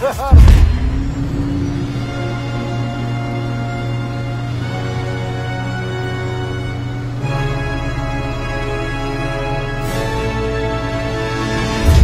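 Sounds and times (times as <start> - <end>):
dramatic orchestral film music: 0.0 - 12.0.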